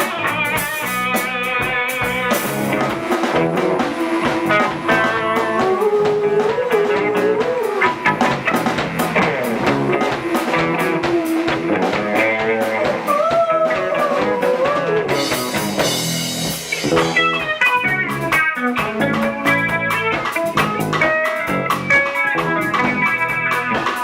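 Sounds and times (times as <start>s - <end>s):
instrumental band music: 0.0s - 24.0s.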